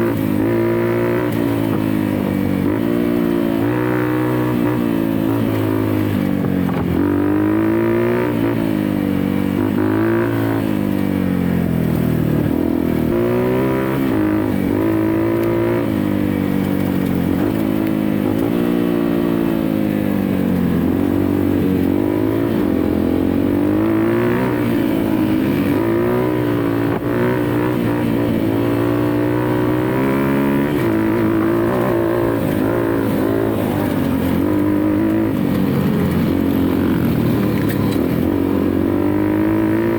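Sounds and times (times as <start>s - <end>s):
dirt bike engine revving: 0.0s - 10.8s, 12.2s - 39.9s.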